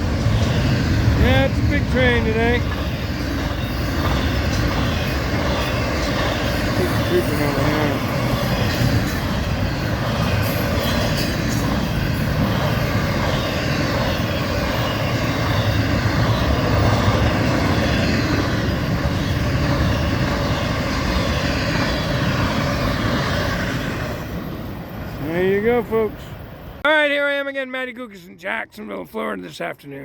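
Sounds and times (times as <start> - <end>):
train wheels on rails: 0.0 - 26.8.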